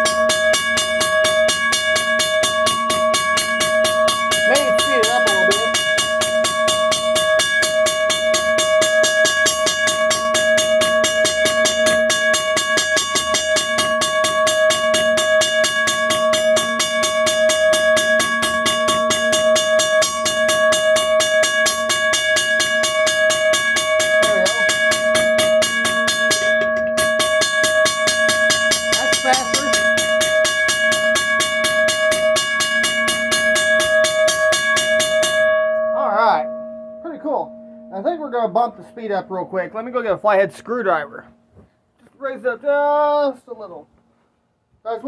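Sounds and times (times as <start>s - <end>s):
railroad crossing bell ringing: 0.0s - 41.5s.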